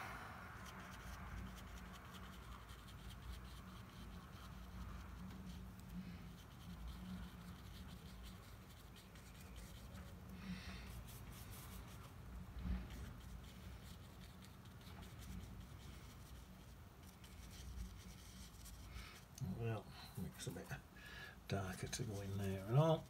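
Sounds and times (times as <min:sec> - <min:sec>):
brush dabbing and scratching on paper: 0:00.5 - 0:19.8, 0:21.5 - 0:23.0.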